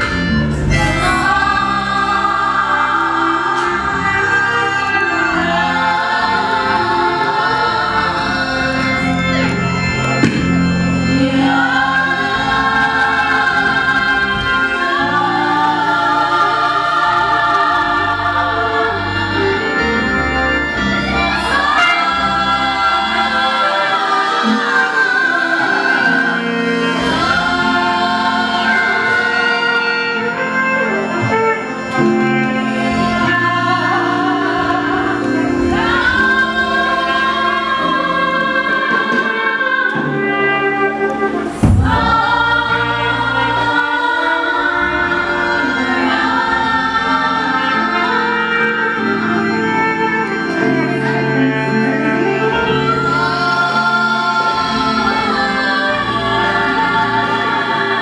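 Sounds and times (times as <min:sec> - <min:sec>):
choir singing gospel song: 0:00.0 - 0:58.0
instrumental accompaniment: 0:00.0 - 0:58.0.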